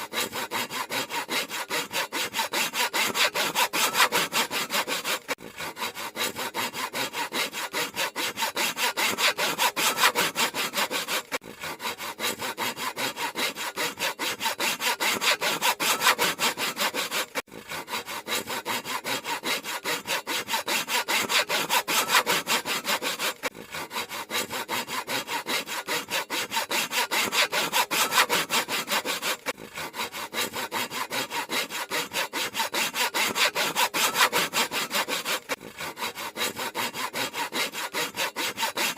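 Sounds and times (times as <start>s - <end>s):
handsaw cutting wood: 0.0s - 38.9s.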